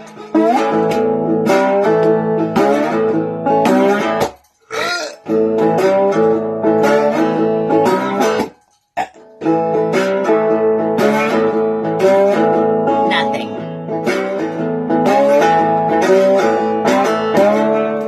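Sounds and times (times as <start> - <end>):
strummed guitar music: 0.0 - 18.0.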